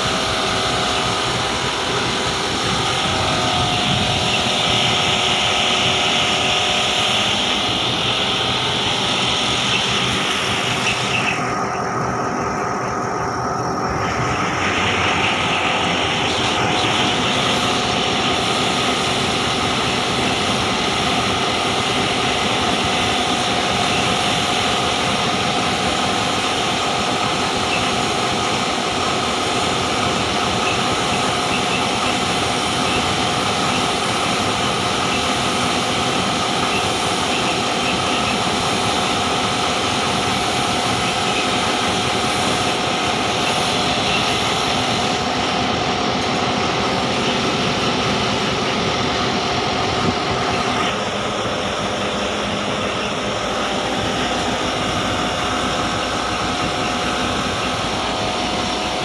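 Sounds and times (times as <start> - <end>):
mechanical drone with hiss: 0.0 - 59.0.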